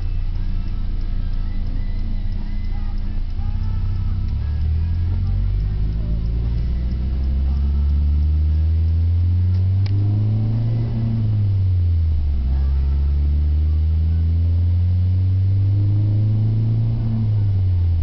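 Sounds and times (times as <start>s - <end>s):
car exhaust accelerating: 0.0s - 18.0s.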